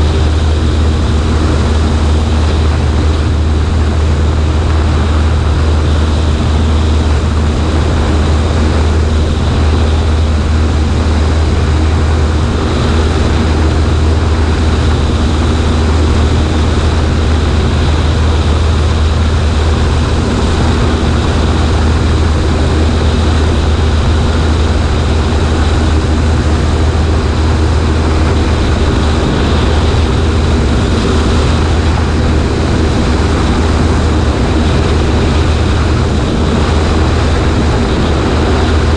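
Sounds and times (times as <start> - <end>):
airplane engine and propeller droning: 0.0 - 38.9
wind rushing over microphone: 0.0 - 38.9.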